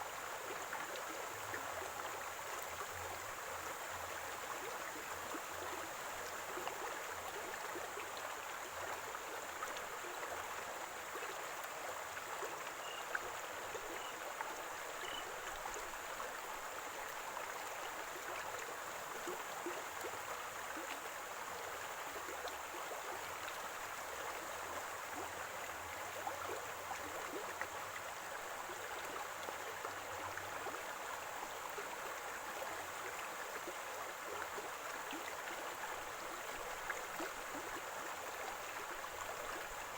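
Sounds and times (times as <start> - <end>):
stream gurgling and splashing: 0.0 - 39.9.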